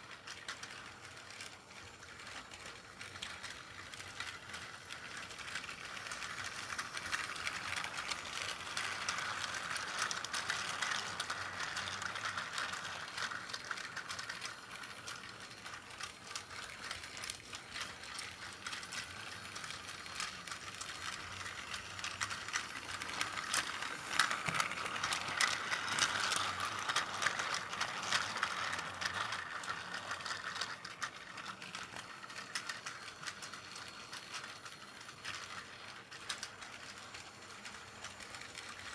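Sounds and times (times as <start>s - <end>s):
toy train motor whirring: 0.0s - 38.9s
wheels clicking on plastic track: 0.0s - 38.9s.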